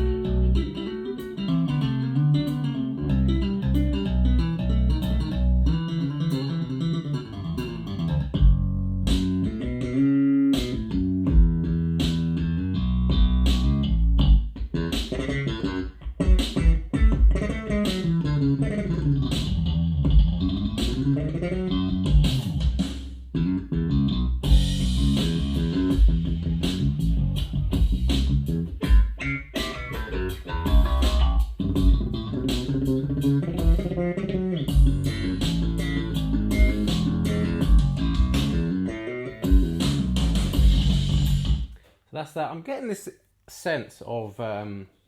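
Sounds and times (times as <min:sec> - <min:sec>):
band music over speakers: 0:00.0 - 0:41.7.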